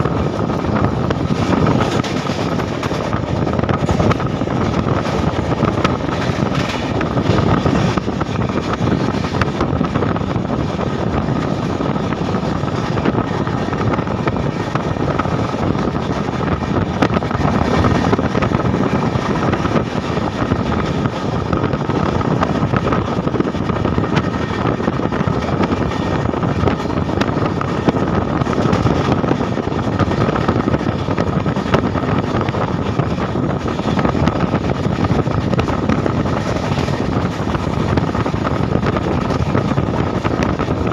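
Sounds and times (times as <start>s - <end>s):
train wheels rumbling on rails: 0.0s - 40.9s
wind rushing over microphone: 0.0s - 40.9s.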